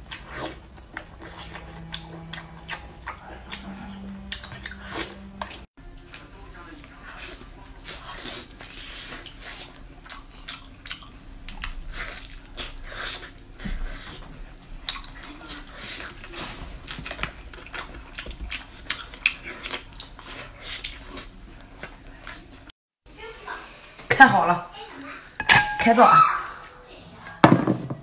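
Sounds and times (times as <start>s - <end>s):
wet chewing and lip-smacking: 0.0s - 22.7s.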